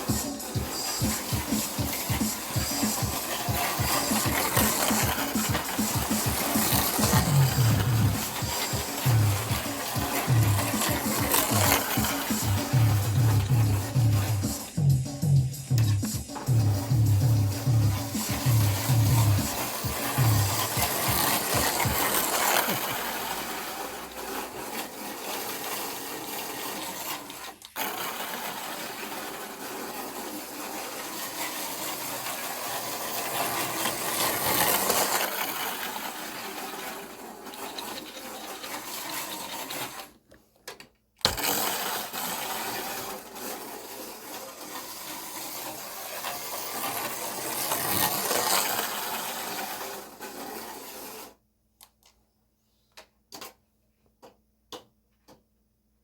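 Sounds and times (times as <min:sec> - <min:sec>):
slot cars whirring: 0:00.0 - 0:40.2, 0:41.2 - 0:51.4.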